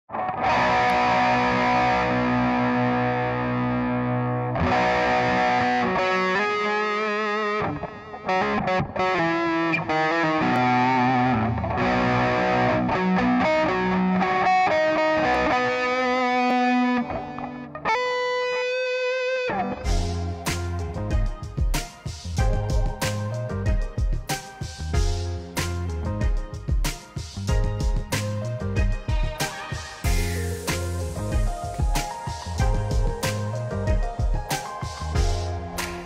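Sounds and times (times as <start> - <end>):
distorted electric guitar: 0.1 - 36.0.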